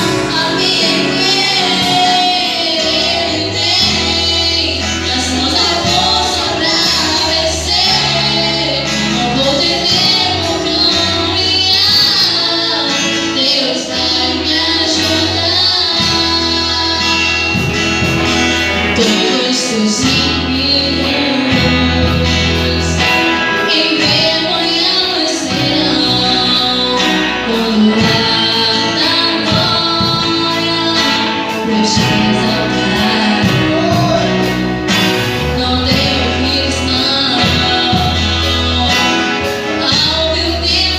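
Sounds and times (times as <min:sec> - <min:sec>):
guitar and bass: 0:00.0 - 0:40.9
women singing worship music: 0:00.0 - 0:40.9.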